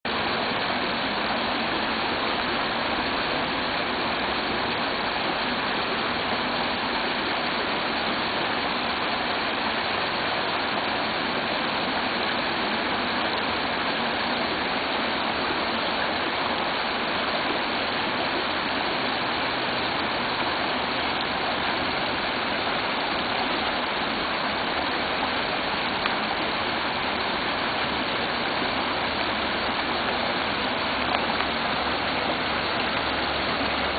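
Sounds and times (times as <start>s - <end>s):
creek water running over rocks: 0.1s - 33.9s.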